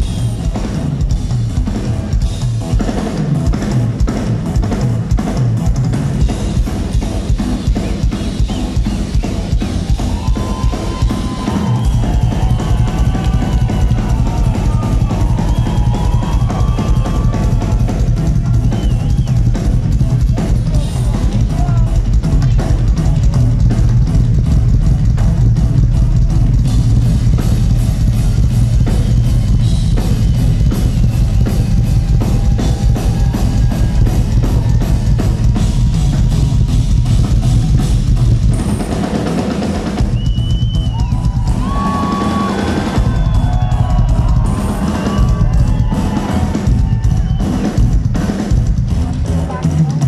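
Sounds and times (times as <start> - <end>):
fast bass drum strokes: 0.0 - 50.0.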